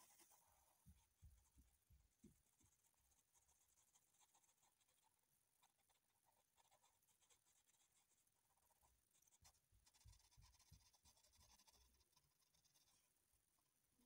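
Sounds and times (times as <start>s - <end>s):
pencil scratching on paper: 0.0s - 1.8s, 2.4s - 13.2s.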